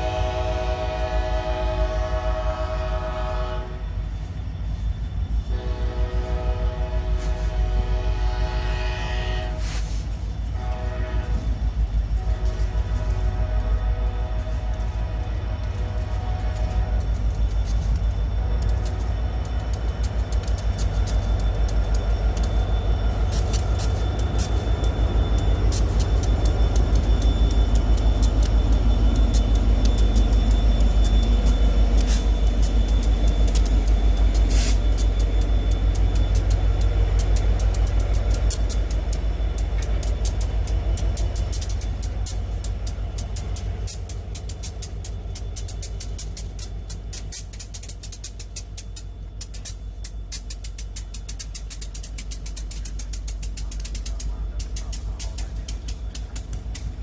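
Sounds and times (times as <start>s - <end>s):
train rumbling past: 0.0s - 57.0s
wheels clicking on rails: 0.0s - 57.0s.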